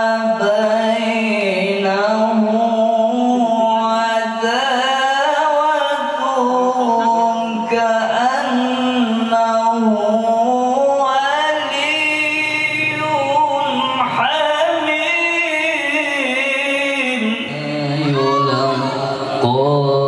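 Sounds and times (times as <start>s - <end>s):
person singing slow melody: 0.0s - 20.0s.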